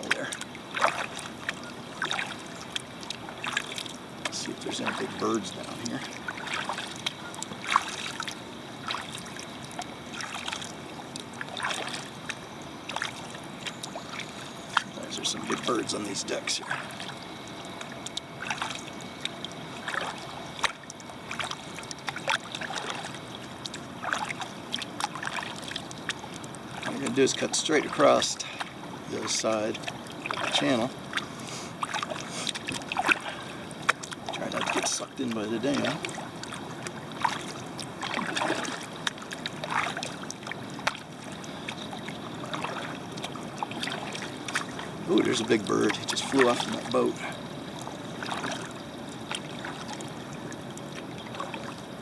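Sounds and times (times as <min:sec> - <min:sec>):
water dripping: 0:00.0 - 0:31.2, 0:31.8 - 0:51.8
kayak paddle splashing water: 0:00.0 - 0:52.0.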